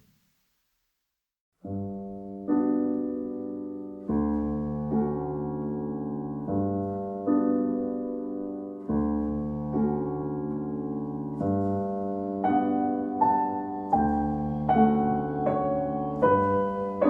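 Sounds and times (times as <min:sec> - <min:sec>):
soft solo piano chords: 0:01.6 - 0:17.0.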